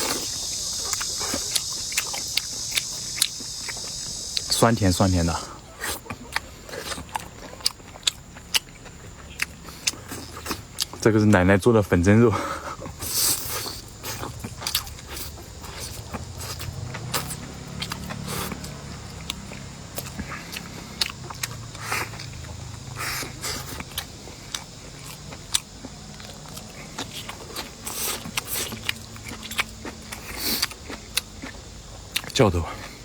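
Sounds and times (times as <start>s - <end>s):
person chewing food: 0.0s - 11.2s, 12.1s - 33.0s.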